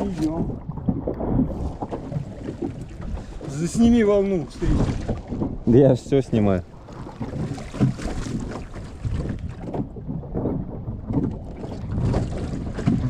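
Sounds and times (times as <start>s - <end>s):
waves splashing against hull: 0.0s - 13.0s
wind buffeting microphone: 0.0s - 13.0s.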